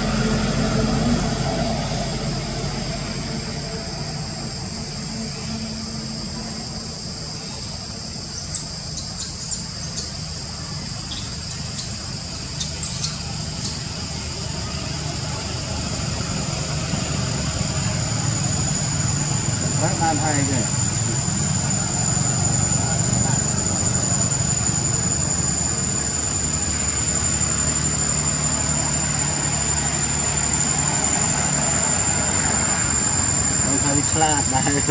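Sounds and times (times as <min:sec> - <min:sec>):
insects droning: 0:00.0 - 0:34.9
low engine rumble: 0:00.0 - 0:34.9.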